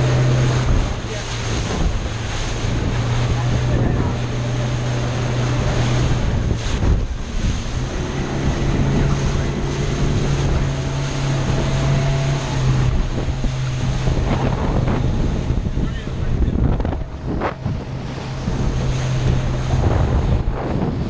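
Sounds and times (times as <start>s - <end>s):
outboard engines humming: 0.0s - 21.0s
water rushing past hull: 0.0s - 21.0s
wind buffeting microphone: 0.0s - 21.0s.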